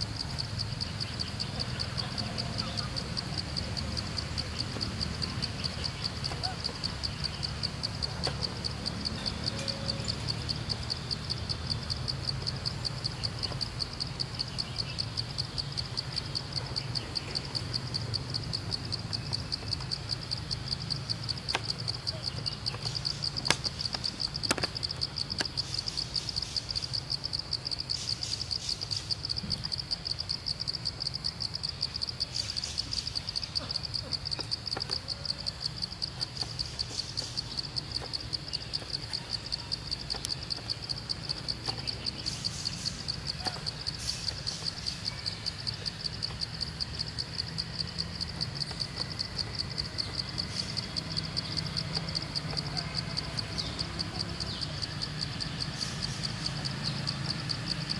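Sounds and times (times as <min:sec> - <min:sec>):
insect trilling: 0:00.0 - 0:57.9.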